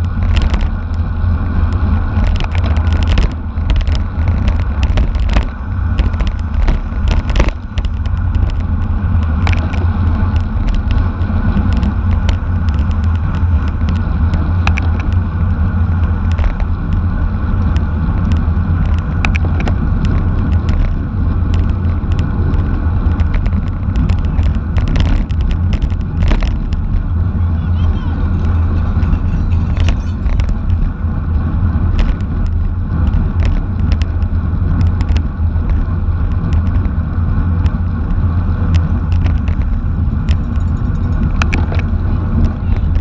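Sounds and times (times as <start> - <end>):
bicycle clicks and ticks: 0.0 - 27.0, 31.9 - 37.0, 37.6 - 43.0
wind and road noise: 0.0 - 43.0.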